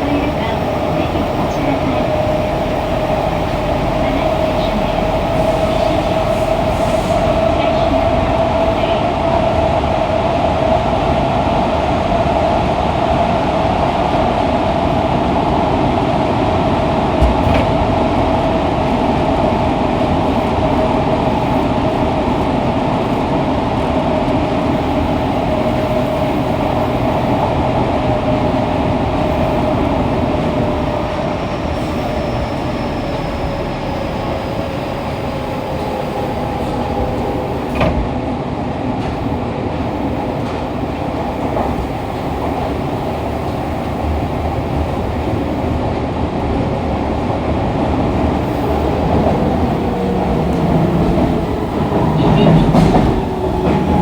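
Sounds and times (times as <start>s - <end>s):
subway train motor tone: 0.0s - 54.0s
wheel and tunnel noise: 0.0s - 54.0s.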